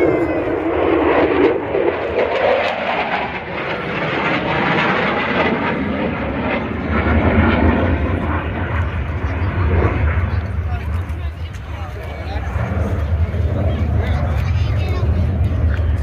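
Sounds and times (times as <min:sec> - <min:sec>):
jet roar flying past: 0:00.0 - 0:16.0.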